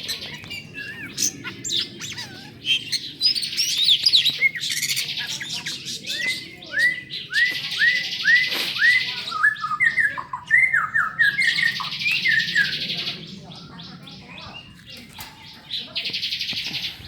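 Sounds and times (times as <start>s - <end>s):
lovebird chirping and trilling: 0.0s - 17.0s.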